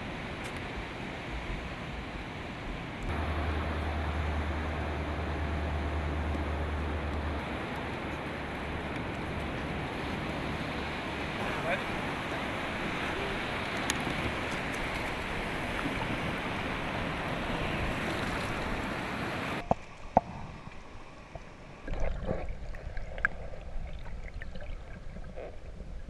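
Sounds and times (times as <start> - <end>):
surf washing: 0.0 - 21.9
low rumbling wash: 0.0 - 26.0
water sloshing and splashing: 3.1 - 26.0.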